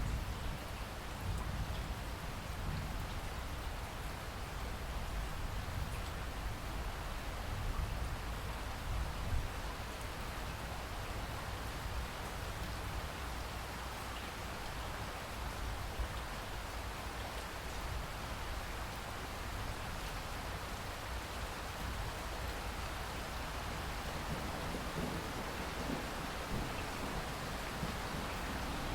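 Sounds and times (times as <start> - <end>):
rain pattering: 0.0 - 28.9.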